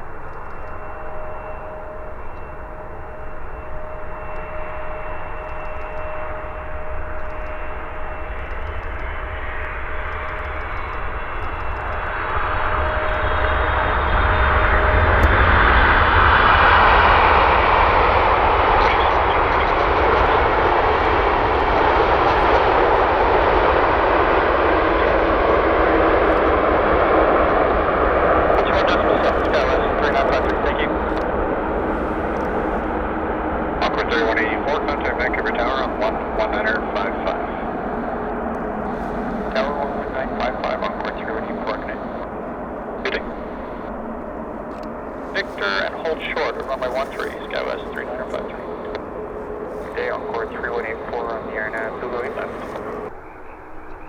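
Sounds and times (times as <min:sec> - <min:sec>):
jet airliner engine noise: 0:00.0 - 0:54.0.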